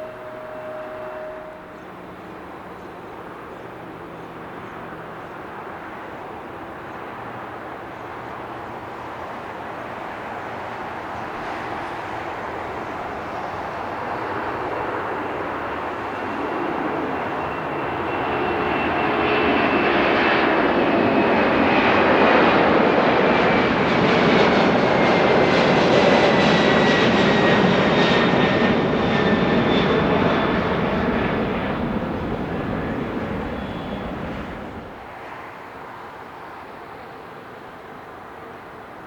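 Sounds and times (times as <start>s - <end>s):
high engine whine: 0.0s - 39.0s
jet airliner passing: 0.0s - 39.0s.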